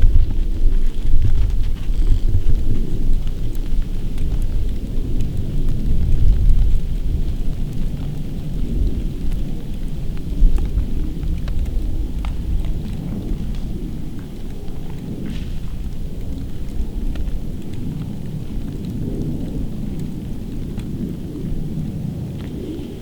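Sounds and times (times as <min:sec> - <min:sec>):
faint ticks: 0:00.0 - 0:23.0
wind buffeting microphone: 0:00.0 - 0:23.0.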